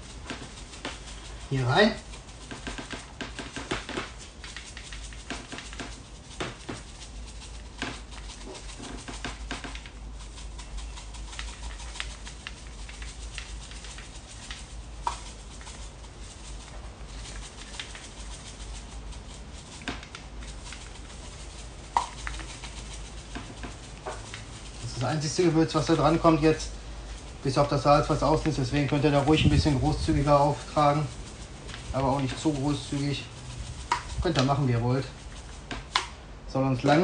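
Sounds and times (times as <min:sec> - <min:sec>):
grains pattering on cutting board: 0:00.0 - 0:37.0.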